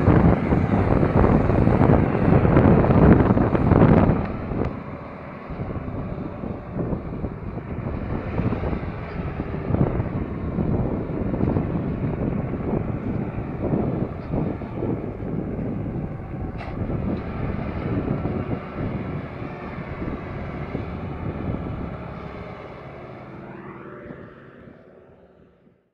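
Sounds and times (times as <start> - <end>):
wind buffeting microphone: 0.0 - 25.7
tractor engine under heavy load: 0.0 - 25.8.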